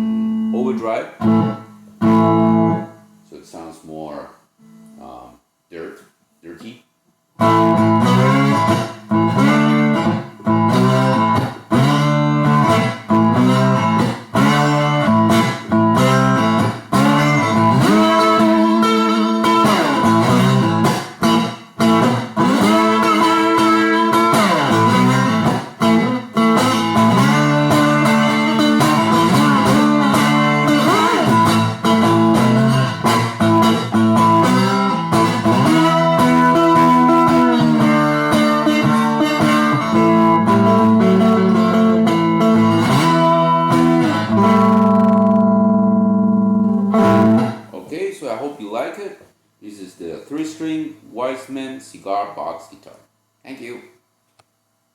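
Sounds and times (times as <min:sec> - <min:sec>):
overdriven cigar box guitar riffs: 0:00.0 - 0:03.3, 0:04.6 - 0:05.3, 0:07.4 - 0:47.7.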